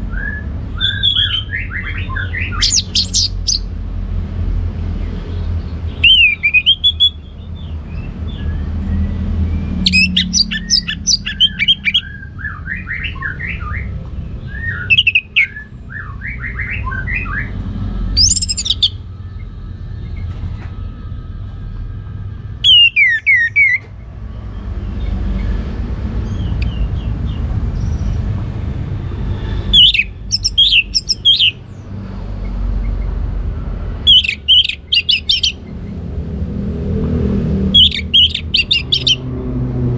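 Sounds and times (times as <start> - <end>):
thrush singing: 0.6 - 3.8, 8.0 - 28.3, 29.6 - 39.9.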